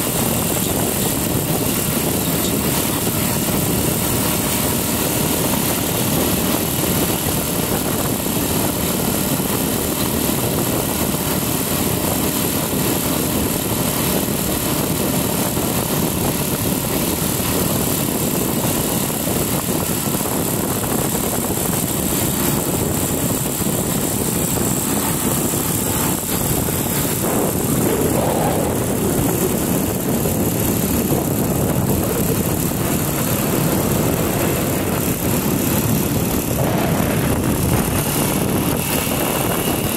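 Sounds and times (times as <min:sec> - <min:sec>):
motorcycle engine running: 0:00.0 - 0:39.9
road noise: 0:00.0 - 0:39.9
wind rush: 0:00.0 - 0:39.9.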